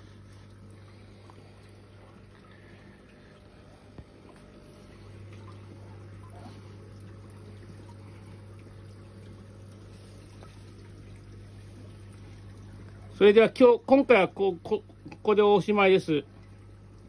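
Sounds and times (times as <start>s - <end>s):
steady low hum: 0.0s - 17.0s
water trickling: 0.0s - 17.0s.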